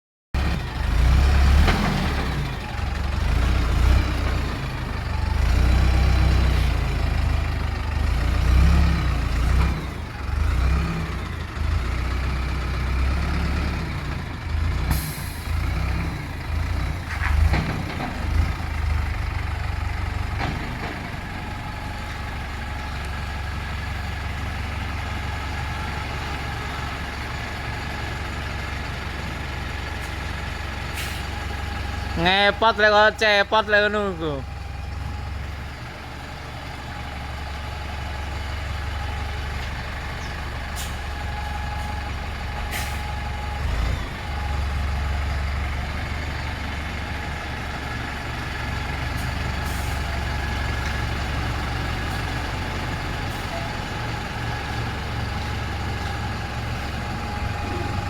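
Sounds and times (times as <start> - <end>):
truck engine revving: 0.4 - 58.0.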